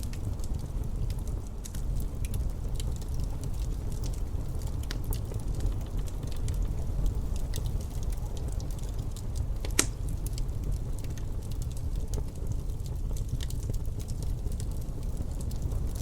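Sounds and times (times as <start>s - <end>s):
wind rumbling: 0.0s - 16.0s
wood fire crackling and popping: 0.0s - 16.0s.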